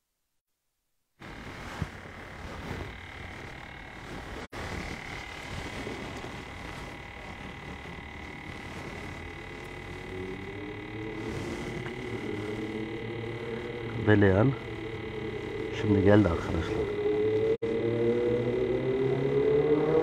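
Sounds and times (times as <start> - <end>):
small electric motor whirring: 1.2 - 20.0.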